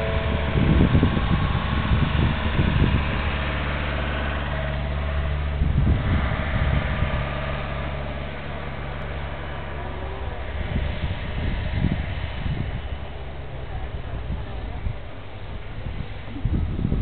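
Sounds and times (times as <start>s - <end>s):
jet engines idling: 0.0s - 17.0s
low rumbles: 0.0s - 17.0s.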